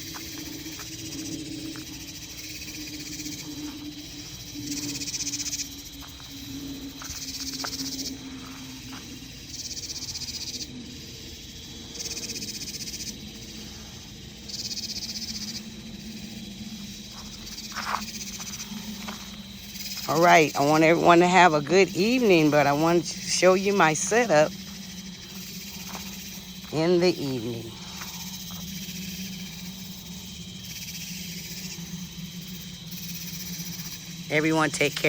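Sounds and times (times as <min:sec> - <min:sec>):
night insects calling: 0:00.0 - 0:35.0.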